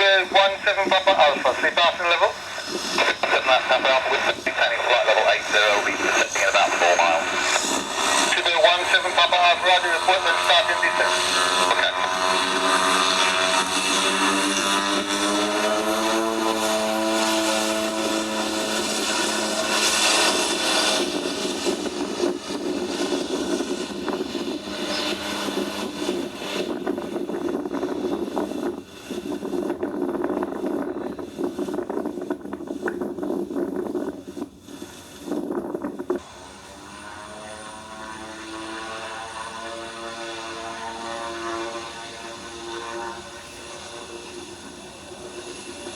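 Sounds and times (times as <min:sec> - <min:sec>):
airliner engines passing: 0:00.0 - 0:45.9.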